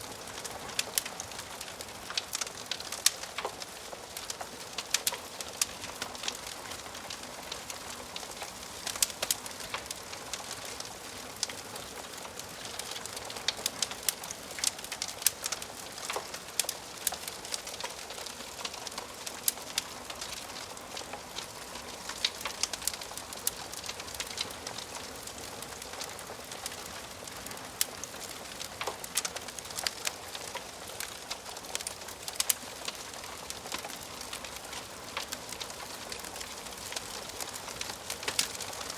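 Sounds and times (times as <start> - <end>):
wood fire hissing: 0.0 - 38.9
burning logs popping: 0.1 - 38.9.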